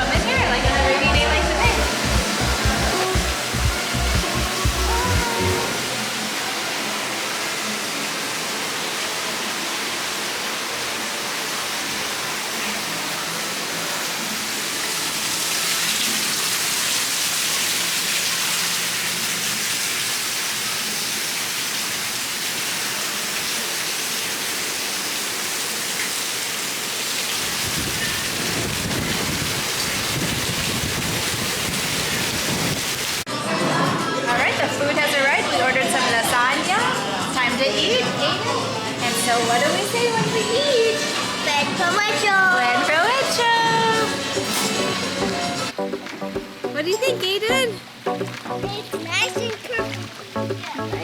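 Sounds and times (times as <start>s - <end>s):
heavy rain hissing: 0.0s - 33.3s, 36.4s - 45.8s, 46.8s - 51.0s.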